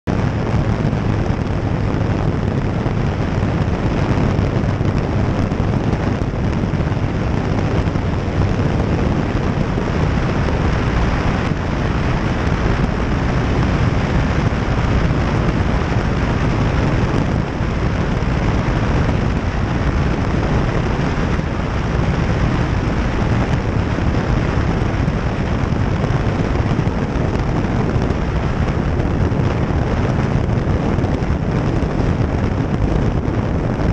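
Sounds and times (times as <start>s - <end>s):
plane engine and propeller: 0.1s - 33.9s
wind buffeting microphone: 0.1s - 33.9s.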